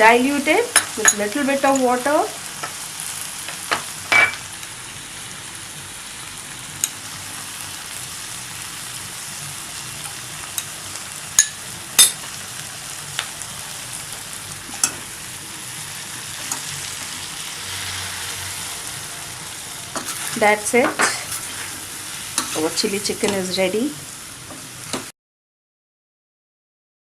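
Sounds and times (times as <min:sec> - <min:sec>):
chicken sizzling in a pan: 0:00.0 - 0:25.1.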